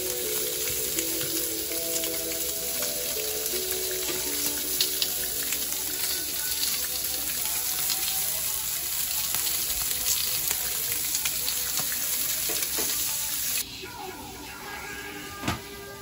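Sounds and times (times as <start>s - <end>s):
pork sizzling in a pan: 0.0s - 13.6s.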